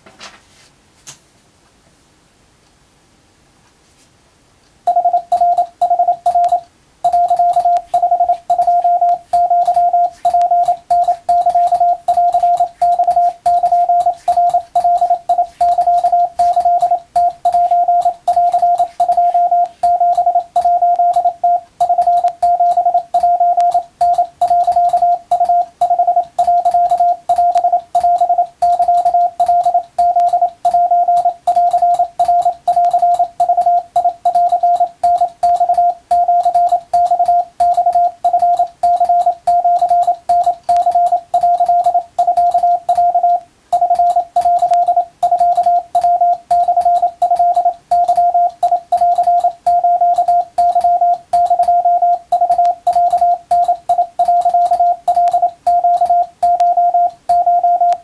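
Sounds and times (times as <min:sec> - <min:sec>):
morse code beeps: 0:04.9 - 0:58.0
telegraph key clicks: 0:05.0 - 0:58.0.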